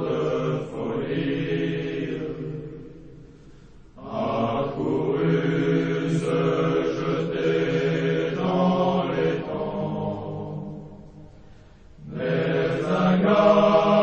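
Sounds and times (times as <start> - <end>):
group singing military song: 0.0 - 3.3, 4.0 - 11.2, 12.0 - 14.0.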